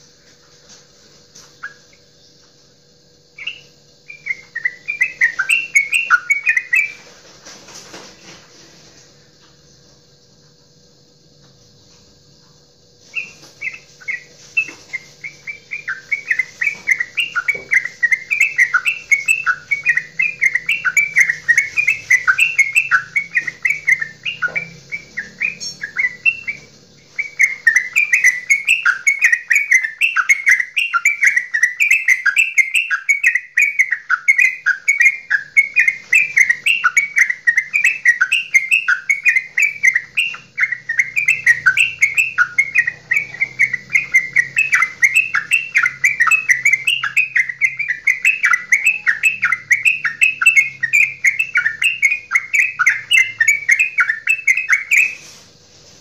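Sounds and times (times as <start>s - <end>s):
bird chattering song: 1.3s - 8.4s, 12.9s - 55.5s.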